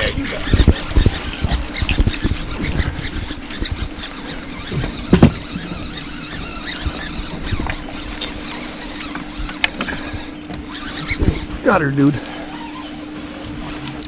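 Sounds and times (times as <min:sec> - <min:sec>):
wind buffeting microphone: 0:00.0 - 0:12.2
boat motor humming: 0:00.0 - 0:14.0.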